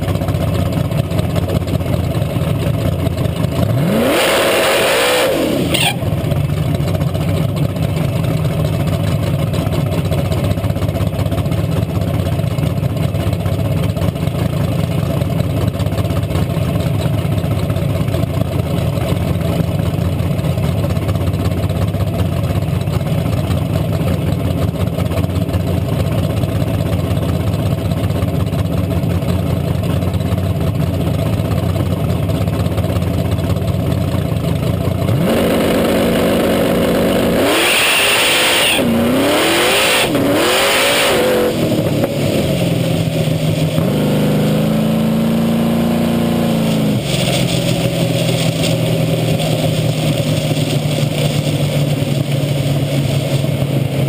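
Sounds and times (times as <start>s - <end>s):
car engine running and revving: 0.0s - 54.0s.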